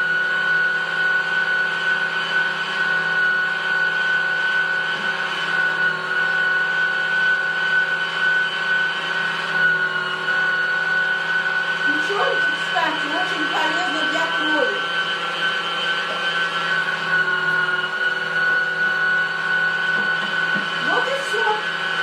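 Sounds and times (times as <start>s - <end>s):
electric meat grinder whining: 0.0s - 22.0s.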